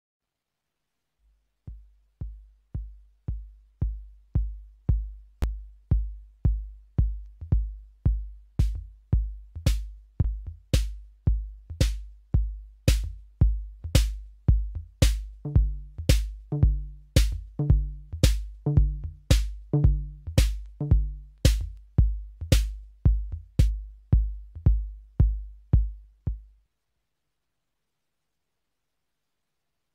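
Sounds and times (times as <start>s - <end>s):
electronic kick drum: 1.7s - 26.5s.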